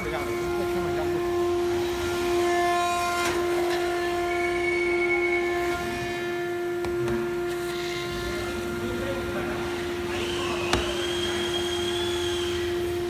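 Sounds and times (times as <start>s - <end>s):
cnc router whining: 0.0s - 13.0s.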